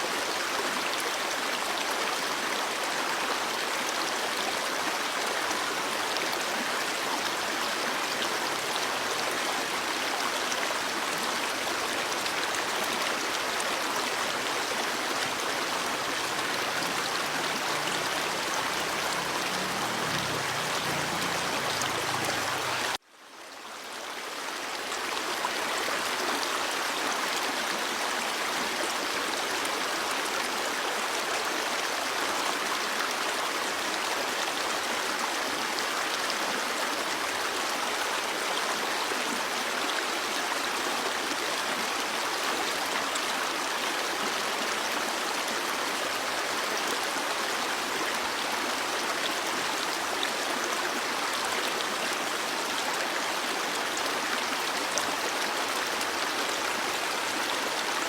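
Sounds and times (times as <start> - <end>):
stream water flowing and splashing: 0.0 - 58.0.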